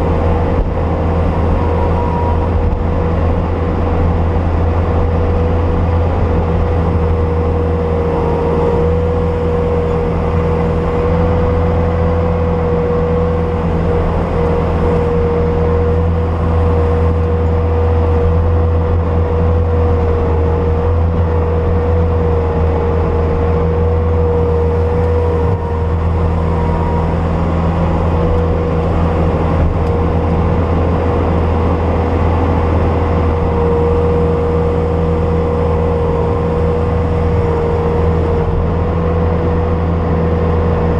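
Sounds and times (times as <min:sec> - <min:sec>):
diesel engine droning: 0:00.0 - 0:40.9
steady whine: 0:00.0 - 0:40.9.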